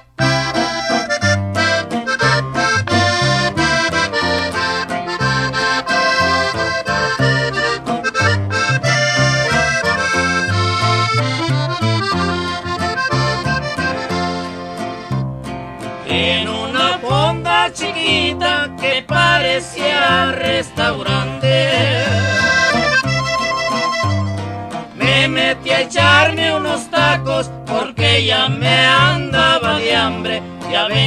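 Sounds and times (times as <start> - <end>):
button accordion melody: 0.0 - 30.6
bass line: 0.0 - 31.0.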